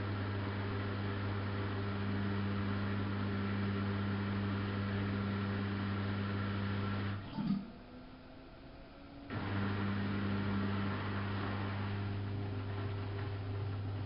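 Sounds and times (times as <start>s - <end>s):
washing machine humming and rushing: 0.0s - 14.0s.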